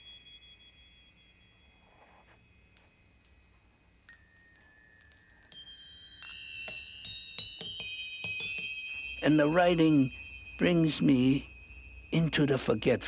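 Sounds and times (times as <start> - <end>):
chime-like bell tones: 0.0 - 13.0.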